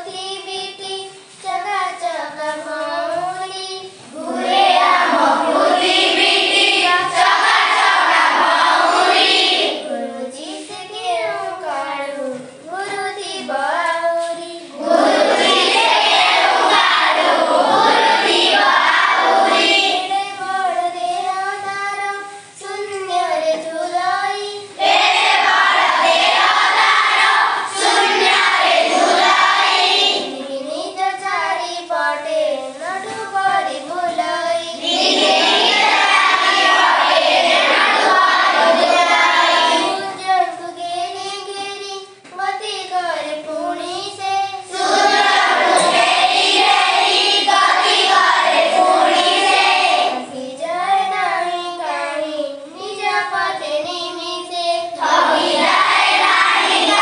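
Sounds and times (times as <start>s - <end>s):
girls singing: 0.0s - 57.0s
group of children singing: 0.0s - 57.0s.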